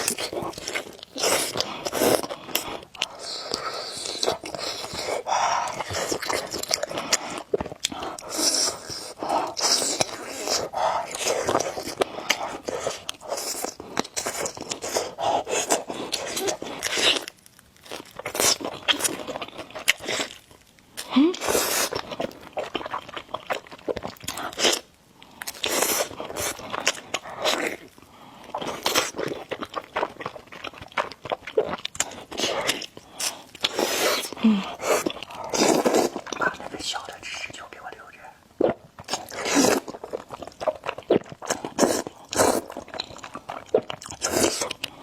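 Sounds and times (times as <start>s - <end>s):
chewing and wet mouth noises: 0.0s - 45.0s.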